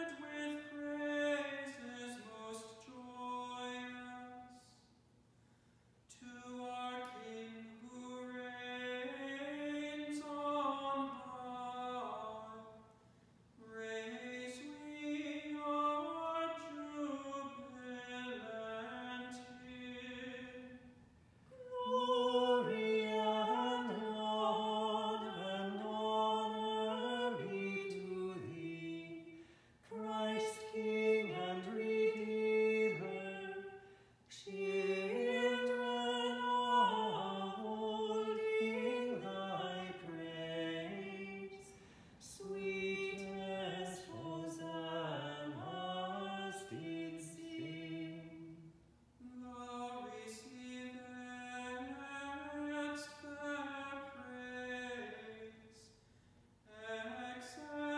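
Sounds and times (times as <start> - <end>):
unaccompanied liturgical singing: 0.0 - 4.8, 6.1 - 12.8, 13.6 - 20.8, 21.5 - 56.0, 56.7 - 57.9.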